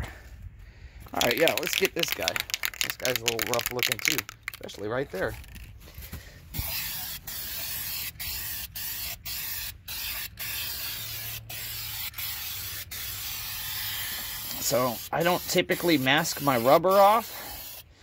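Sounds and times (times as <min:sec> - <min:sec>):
spray paint hissing: 0:01.2 - 0:04.7, 0:06.5 - 0:17.9.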